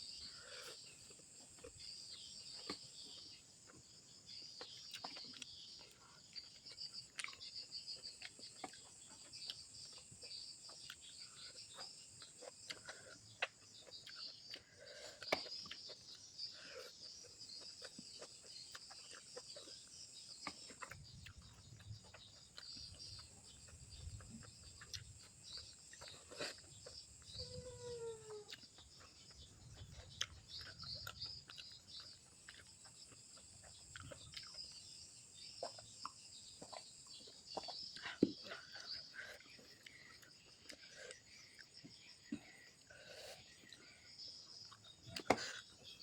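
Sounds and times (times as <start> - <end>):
insects chirring: 0.0 - 46.0
mouth smacks and chewing: 0.1 - 46.0.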